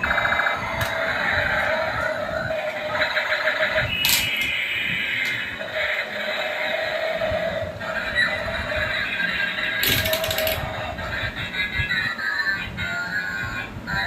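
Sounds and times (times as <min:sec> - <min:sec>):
toy electronic music and effects: 0:00.0 - 0:13.4.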